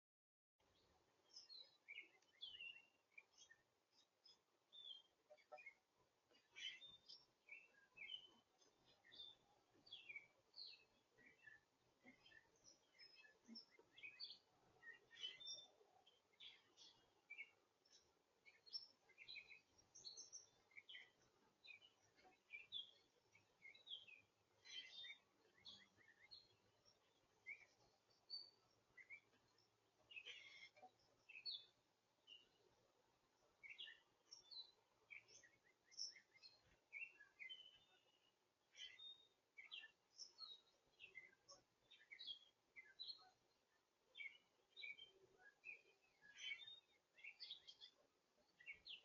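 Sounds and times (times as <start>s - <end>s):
faint birdsong chirps: 0.6s - 49.0s.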